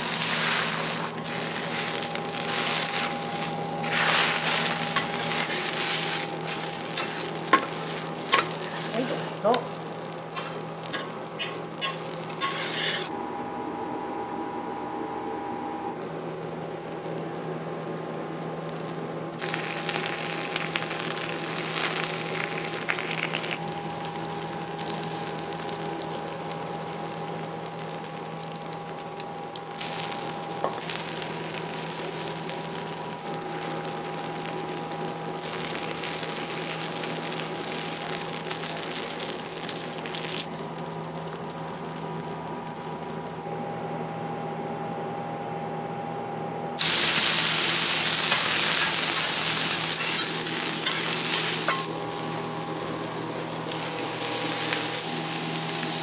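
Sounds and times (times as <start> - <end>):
food sizzling on a griddle: 0.0 - 13.1, 16.4 - 43.4, 46.8 - 56.0.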